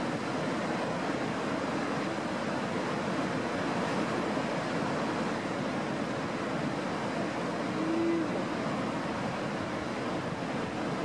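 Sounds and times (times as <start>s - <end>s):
waterfall roar: 0.0s - 11.0s.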